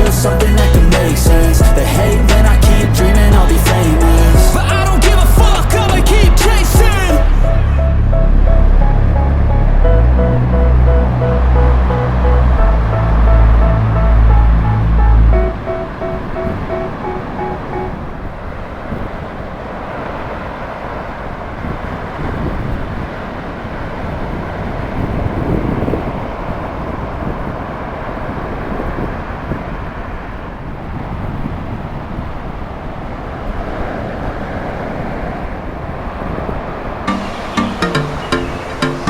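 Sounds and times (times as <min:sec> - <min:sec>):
ocean surf rushing: 0:00.0 - 0:39.0
wind on microphone: 0:00.0 - 0:39.0.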